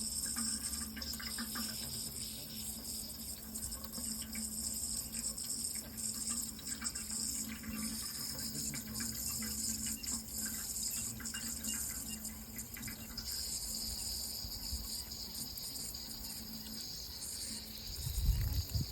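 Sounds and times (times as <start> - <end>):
crickets chirring: 0.0 - 18.9
running water: 0.0 - 18.9.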